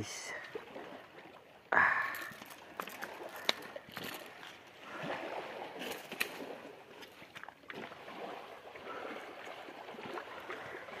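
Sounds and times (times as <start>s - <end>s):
sea water washing over rocks: 0.5s - 11.0s.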